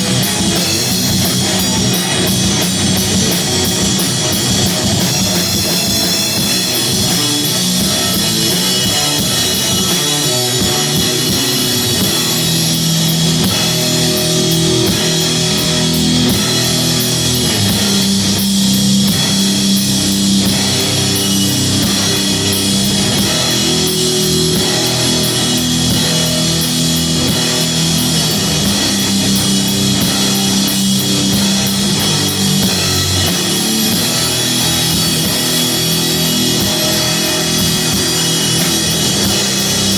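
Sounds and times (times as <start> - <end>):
cymbals: 0.0 - 39.9
heavy rock band playing: 0.0 - 39.9.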